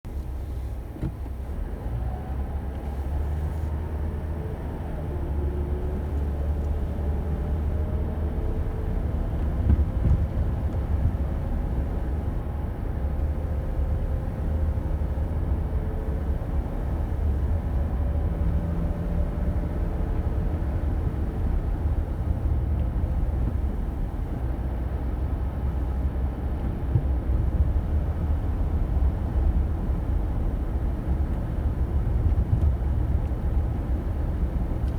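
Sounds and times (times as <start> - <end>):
car engine and tyres rumbling: 0.0 - 34.9.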